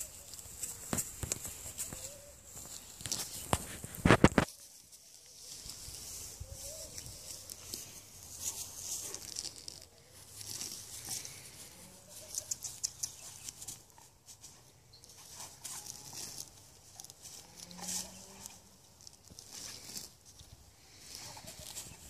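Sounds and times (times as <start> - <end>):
puppy chewing weeds: 0.0 - 22.0.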